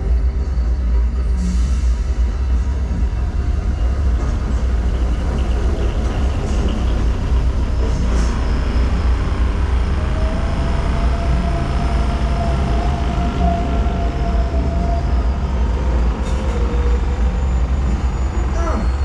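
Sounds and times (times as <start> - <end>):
deep rumble of ride carriage: 0.0 - 19.0.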